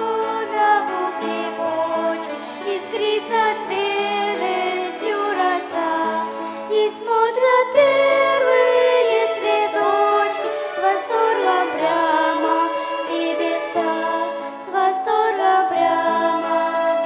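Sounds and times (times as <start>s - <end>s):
violin accompaniment: 0.0s - 17.0s
vocal ensemble singing in harmony: 0.0s - 17.0s.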